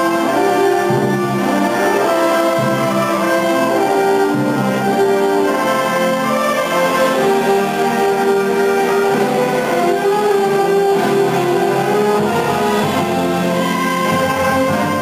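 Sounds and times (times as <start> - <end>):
concert band playing: 0.0 - 15.0.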